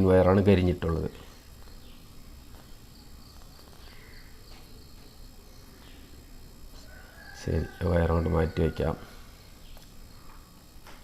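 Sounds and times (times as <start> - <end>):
insect chirping: 0.0 - 11.0
quiet background hum: 0.0 - 11.0.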